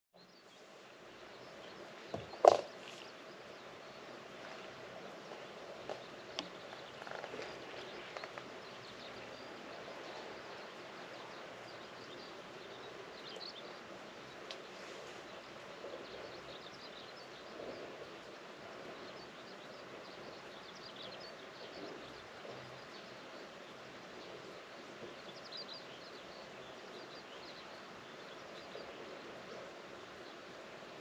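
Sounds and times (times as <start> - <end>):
low outdoor hiss: 0.2 - 31.0.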